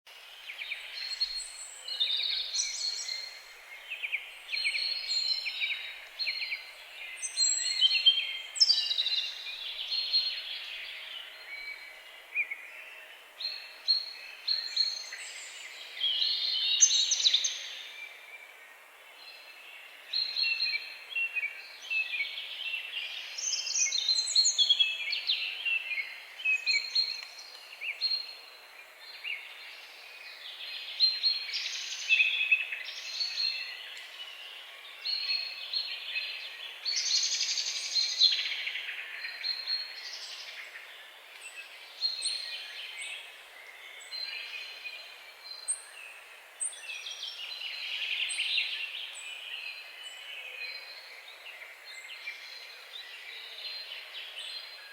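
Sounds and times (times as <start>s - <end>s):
faint steady hiss: 0.1s - 54.9s
songbirds singing and calling: 0.1s - 54.9s.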